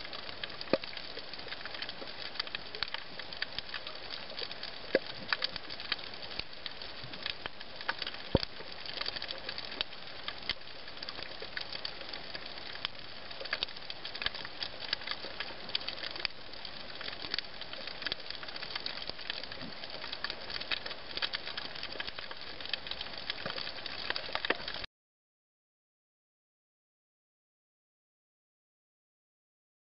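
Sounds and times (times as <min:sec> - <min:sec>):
snapping shrimp crackle underwater: 0:00.0 - 0:24.9.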